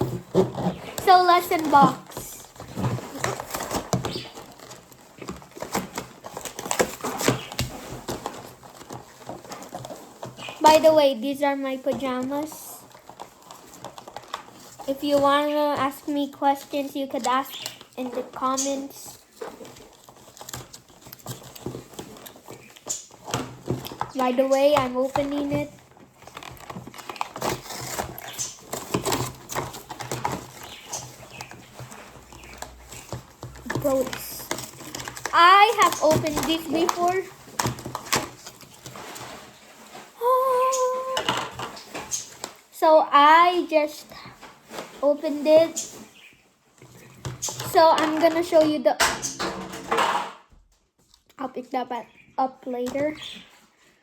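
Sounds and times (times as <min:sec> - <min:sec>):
toy packaging rustling and clicking: 0:00.0 - 0:50.3, 0:52.6 - 0:54.0.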